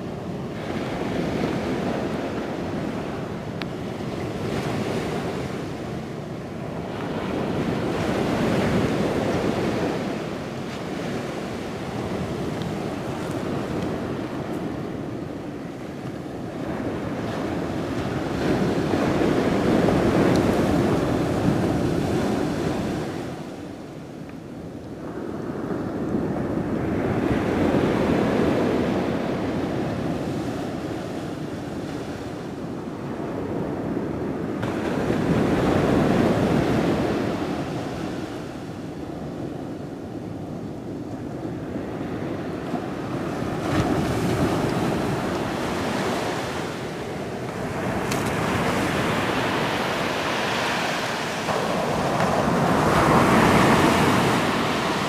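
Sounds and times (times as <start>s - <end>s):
ocean surf breaking: 0.0s - 24.0s, 25.1s - 55.0s
wind on microphone: 0.0s - 55.0s.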